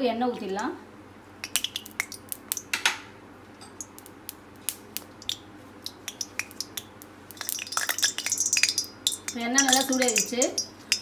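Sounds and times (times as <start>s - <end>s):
hot oil crackling and popping: 1.4s - 3.0s, 3.7s - 11.0s.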